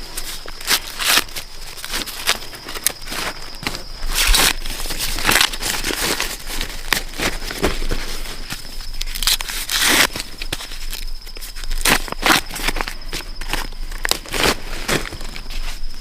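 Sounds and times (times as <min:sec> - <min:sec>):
dry corn husks rustling: 0:00.0 - 0:16.0.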